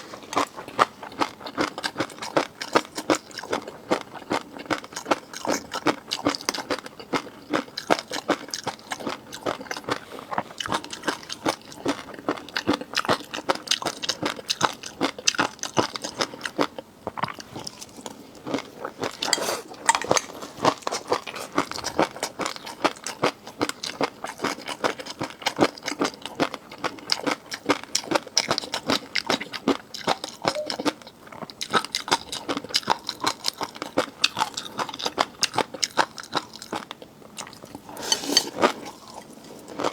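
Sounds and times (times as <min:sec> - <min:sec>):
chewing and crunching seafood: 0:00.0 - 0:39.9.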